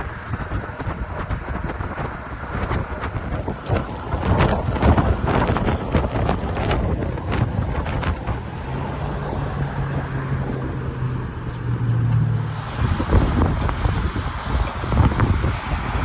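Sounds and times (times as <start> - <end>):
bus engine drone: 0.0 - 16.0
wind buffeting microphone: 0.0 - 16.0.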